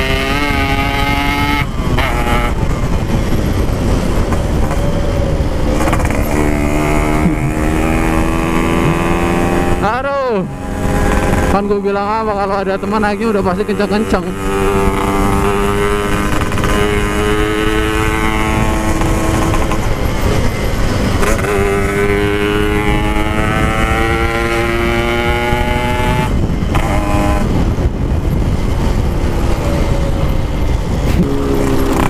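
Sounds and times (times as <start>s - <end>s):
two-stroke motorcycle engine accelerating: 0.0s - 32.0s.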